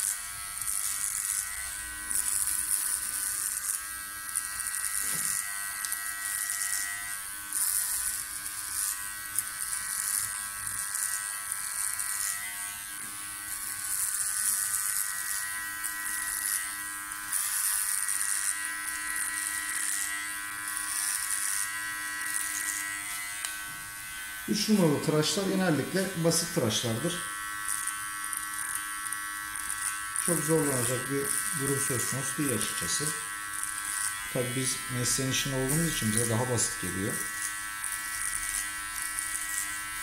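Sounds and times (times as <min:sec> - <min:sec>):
clipper blades cutting hair: 0:00.0 - 0:40.0
hair clipper buzzing: 0:00.0 - 0:40.0.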